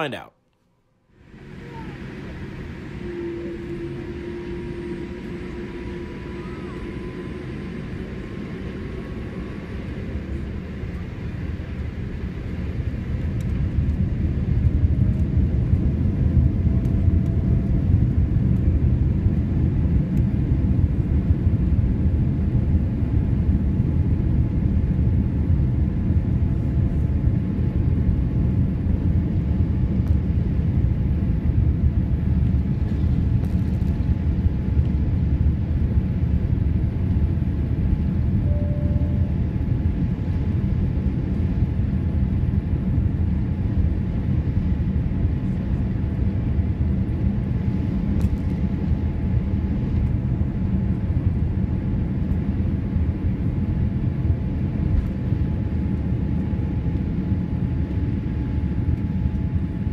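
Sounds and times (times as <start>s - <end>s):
jet engines roaring on takeoff: 1.2s - 59.9s.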